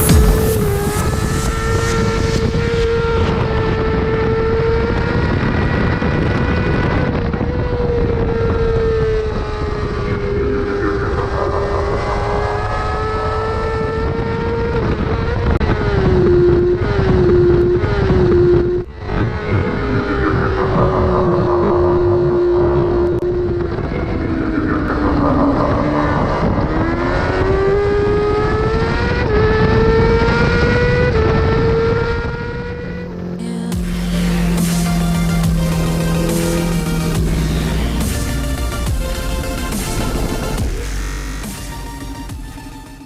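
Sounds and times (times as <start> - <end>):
motorcycle engine at high revs: 0.0 - 43.0.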